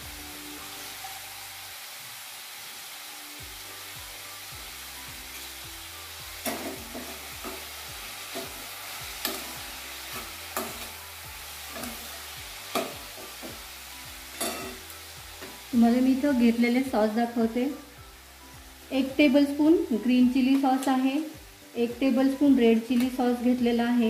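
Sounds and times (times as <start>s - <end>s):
vegetables sizzling in pan: 0.0s - 24.0s.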